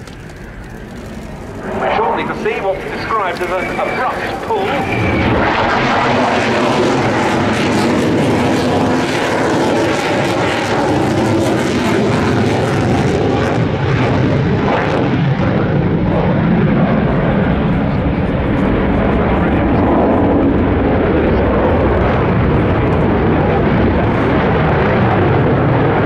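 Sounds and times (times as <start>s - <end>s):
loud jet engine noise: 0.0s - 26.0s.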